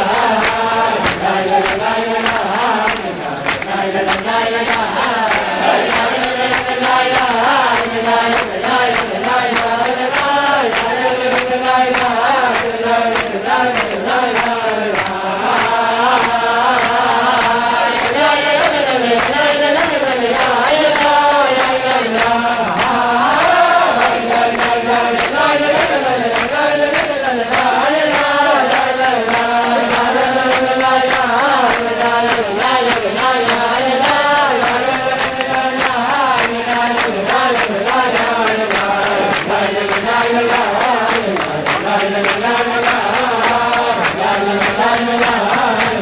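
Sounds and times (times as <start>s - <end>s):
group singing wordless melody: 0.0s - 46.0s.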